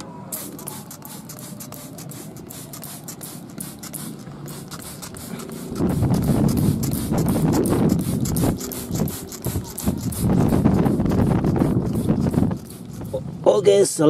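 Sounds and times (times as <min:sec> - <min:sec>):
spray bottle hissing sprays: 0:00.0 - 0:13.2
low rumbling noise: 0:01.8 - 0:14.0.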